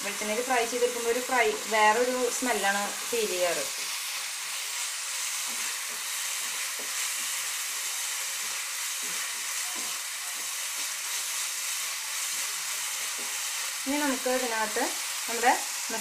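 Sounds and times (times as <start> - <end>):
chilli paste sizzling in pan: 0.0 - 16.0.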